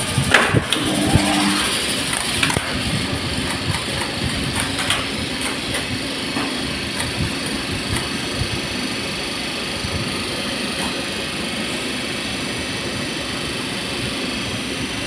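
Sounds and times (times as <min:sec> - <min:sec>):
elevator machinery humming: 0:00.0 - 0:15.0.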